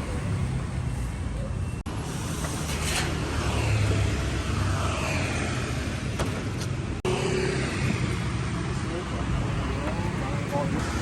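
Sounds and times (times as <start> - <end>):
vehicles passing: 0.0 - 11.0.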